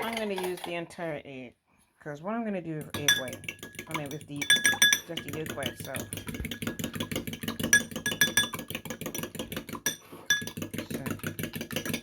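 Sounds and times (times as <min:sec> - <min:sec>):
fork beating egg in bowl: 0:00.0 - 0:00.8, 0:02.7 - 0:12.0.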